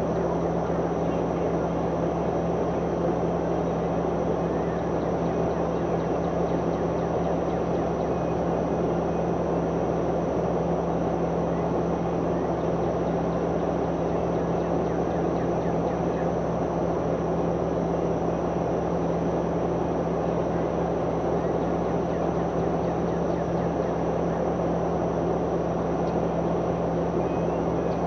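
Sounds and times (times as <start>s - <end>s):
engine running with low hum: 0.0s - 28.0s.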